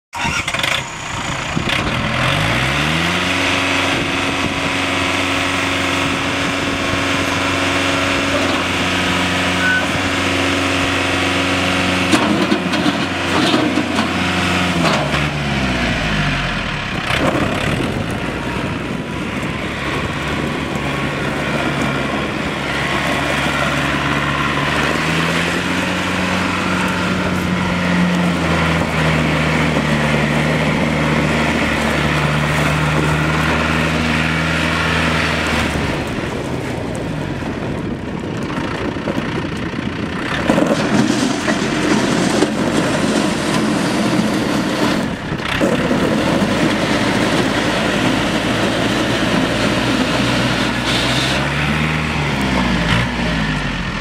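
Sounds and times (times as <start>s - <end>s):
tractor diesel engine running: 0.1s - 54.0s.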